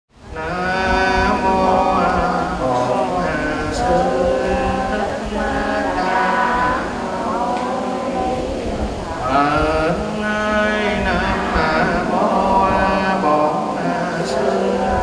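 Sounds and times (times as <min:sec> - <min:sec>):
man chanting: 0:00.2 - 0:15.0.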